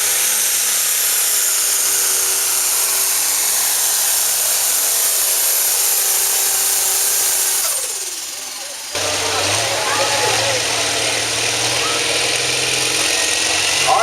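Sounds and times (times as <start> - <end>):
diesel tractor engine running: 0.0 - 14.0
high-pitched turbo whine: 0.0 - 14.0.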